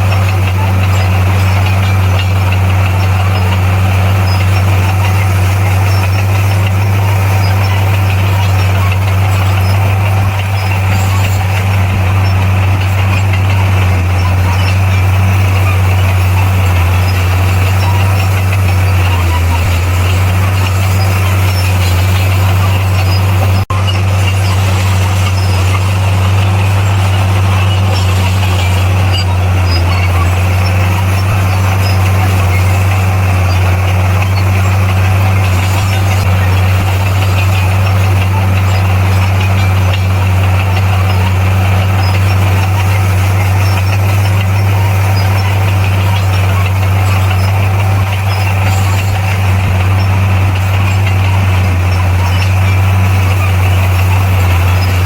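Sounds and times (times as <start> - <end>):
bulldozer diesel engine drone: 0.0 - 55.0
mechanical clatter: 0.0 - 55.0.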